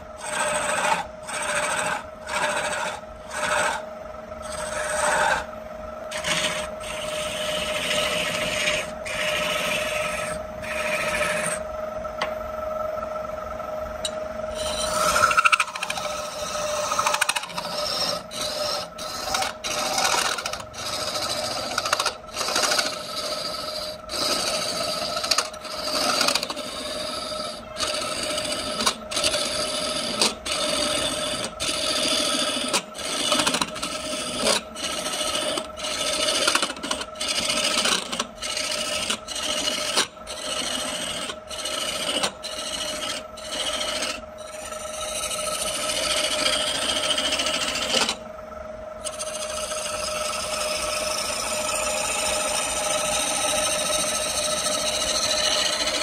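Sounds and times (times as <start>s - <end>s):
tool rasping on spinning wood: 0.0s - 11.6s, 14.5s - 48.2s, 49.0s - 56.0s
lathe humming: 0.0s - 48.3s, 48.9s - 56.0s.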